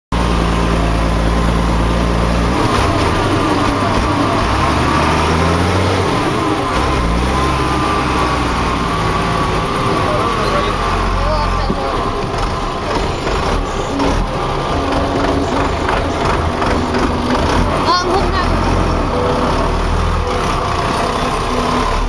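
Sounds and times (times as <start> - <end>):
tractor diesel engine running: 0.1 - 22.0
whine: 0.2 - 22.0.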